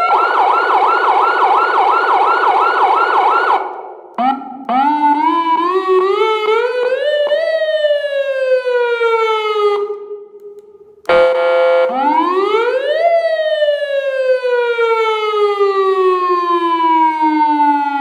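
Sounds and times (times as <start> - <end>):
electronic siren wailing: 0.0 - 10.1, 11.1 - 18.0.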